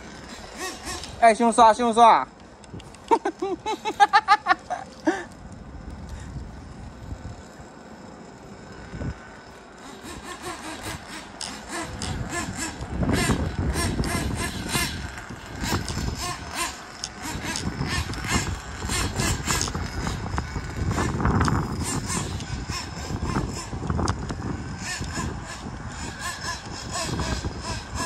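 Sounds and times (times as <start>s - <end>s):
rc car nitro engine running: 0.0s - 28.0s.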